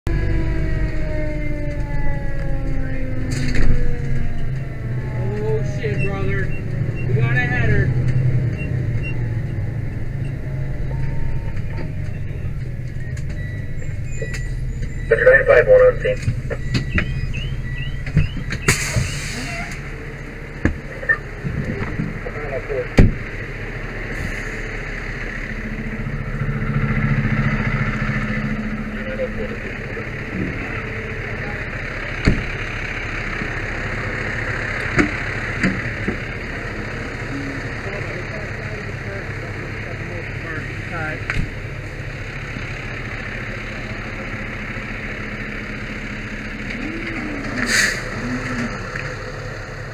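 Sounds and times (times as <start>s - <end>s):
truck engine and road rumble: 0.1s - 49.9s.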